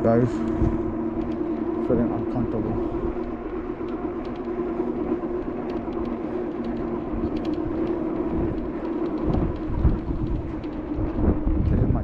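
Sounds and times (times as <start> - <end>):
steady low hum: 0.0 - 12.0
wind buffeting microphone: 0.0 - 12.0.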